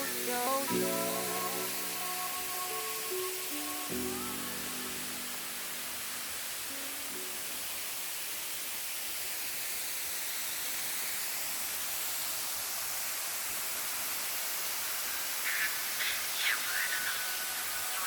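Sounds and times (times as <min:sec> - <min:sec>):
waterfall rushing hiss: 0:00.0 - 0:18.0.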